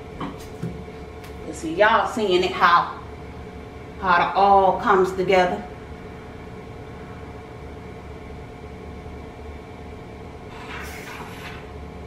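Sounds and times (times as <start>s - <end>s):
room hum with whining tones: 0.0s - 12.0s.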